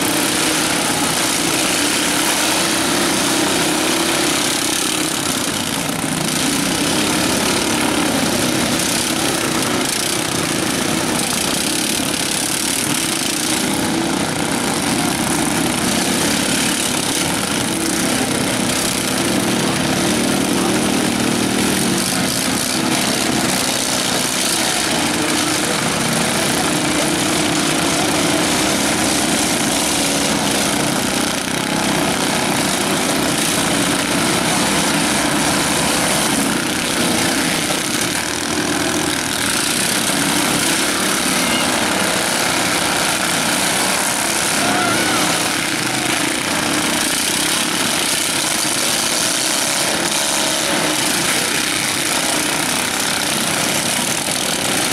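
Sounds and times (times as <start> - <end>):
riding lawn mower engines droning: 0.0 - 54.9.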